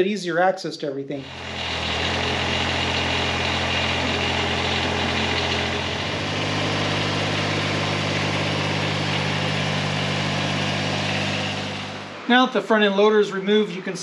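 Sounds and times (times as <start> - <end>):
tractor diesel engine running: 1.2 - 12.4.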